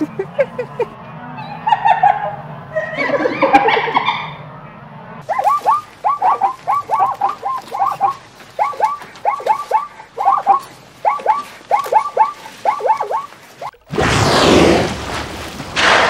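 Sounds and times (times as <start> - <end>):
farm birds calling: 0.0 - 13.7.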